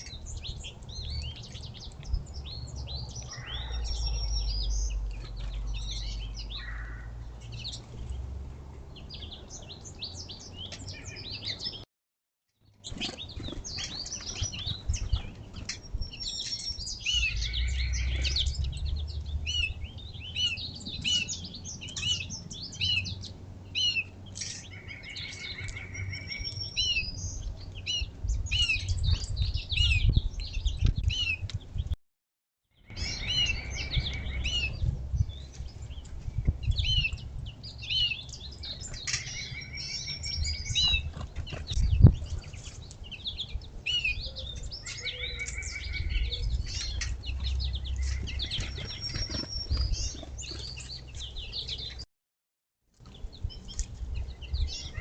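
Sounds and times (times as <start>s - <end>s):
songbirds chirping and calling: 0.0s - 11.9s, 12.6s - 32.0s, 32.8s - 52.1s, 53.0s - 55.0s.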